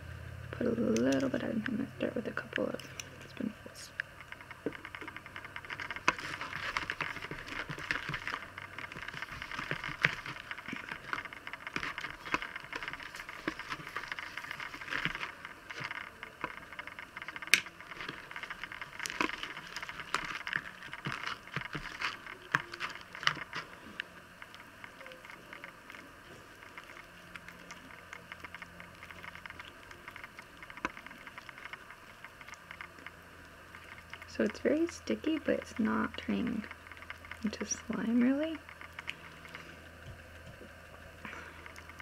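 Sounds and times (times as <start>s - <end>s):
wet slime crackling and popping: 0.7s - 42.0s.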